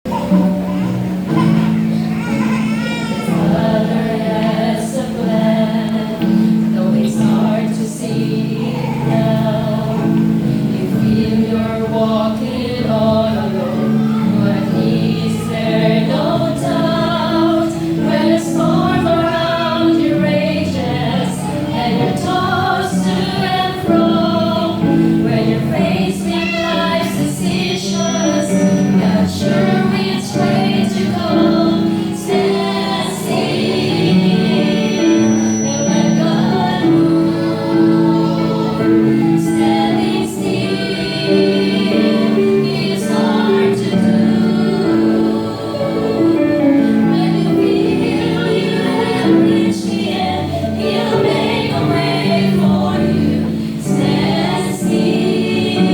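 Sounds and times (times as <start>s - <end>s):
choir of women singing gospel: 0.1s - 55.9s.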